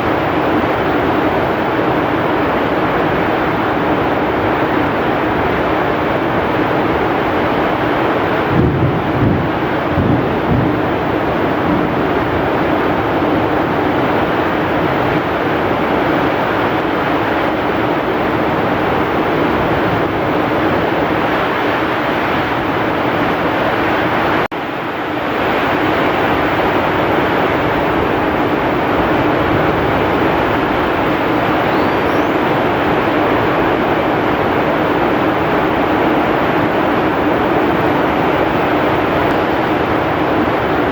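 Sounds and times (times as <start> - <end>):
heavy rain: 0.0 - 40.9
strong wind: 0.0 - 40.9.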